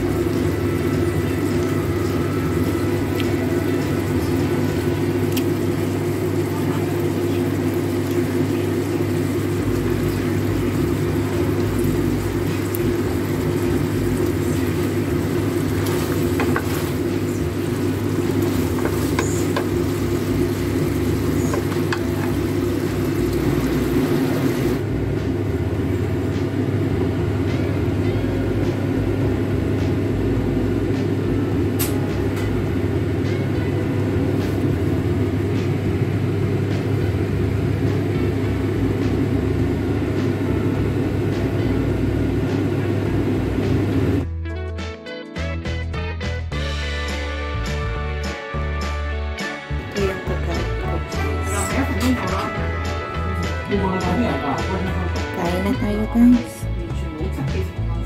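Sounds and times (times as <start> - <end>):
low rumbling machine hum: 0.0 - 44.3, 46.5 - 58.0.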